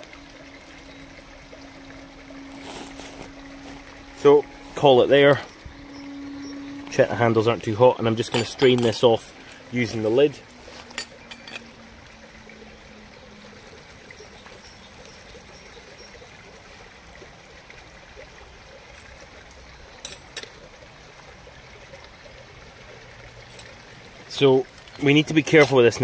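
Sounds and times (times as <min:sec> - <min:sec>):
water trickling from a pot: 0:00.0 - 0:26.0.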